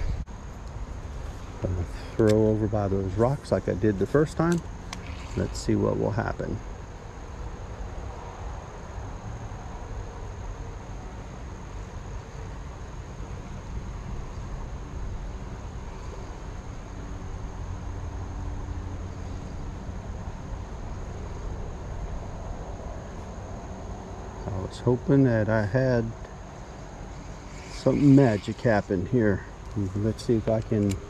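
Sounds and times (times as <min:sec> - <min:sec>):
crickets trilling: 0:00.0 - 0:31.0
low rumbling background noise: 0:00.0 - 0:31.0.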